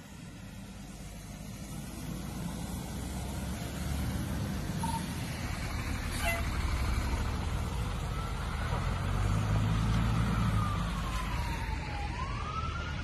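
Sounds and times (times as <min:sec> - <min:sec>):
fire engine rumble: 0:00.0 - 0:13.0.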